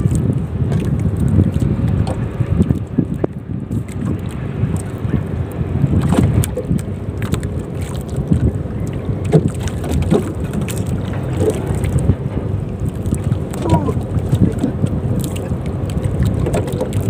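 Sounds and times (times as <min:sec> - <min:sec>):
waves lapping against boat hull: 0:00.0 - 0:17.0
wind buffeting microphone: 0:00.0 - 0:17.0.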